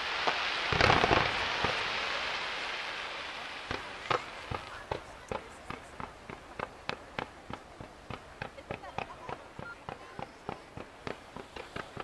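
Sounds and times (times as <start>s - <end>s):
fireworks bursting: 0.0s - 12.0s
fireworks crackling: 0.0s - 12.0s
sharp fireworks bangs: 0.0s - 12.0s.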